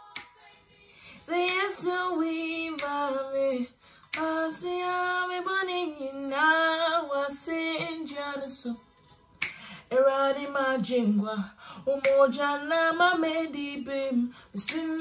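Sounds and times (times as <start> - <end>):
woman singing unaccompanied: 0.0 - 8.8, 9.9 - 15.0.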